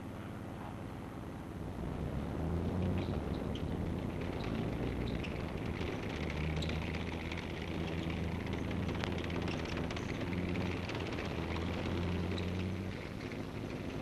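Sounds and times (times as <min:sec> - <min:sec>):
film soundtrack hiss and crackle: 0:00.0 - 0:14.0
tank engine humming: 0:00.0 - 0:14.0.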